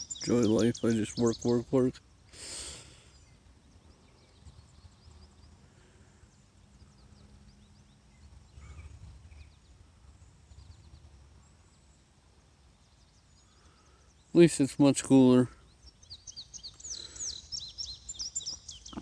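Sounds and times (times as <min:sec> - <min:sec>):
faint steady hum: 0:00.0 - 0:19.0
small birds chirping: 0:00.0 - 0:19.0.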